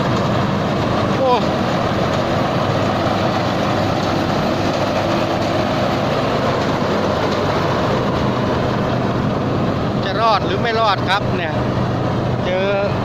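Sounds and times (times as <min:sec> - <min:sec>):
combine harvester engine under load: 0:00.0 - 0:13.0.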